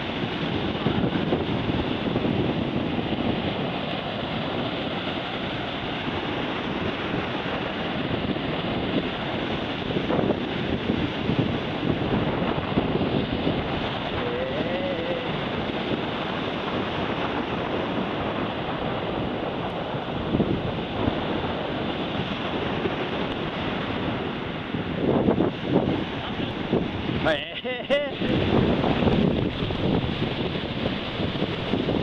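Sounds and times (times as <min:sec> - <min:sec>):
surf on the shore: 0:00.0 - 0:32.0
wind buffeting microphone: 0:00.0 - 0:32.0.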